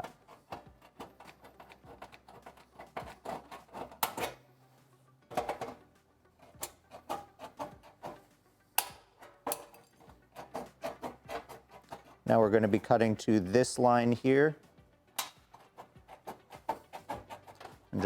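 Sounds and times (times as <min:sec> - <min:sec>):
snips cutting steel: 0:00.0 - 0:04.5, 0:05.3 - 0:13.3, 0:15.1 - 0:18.0.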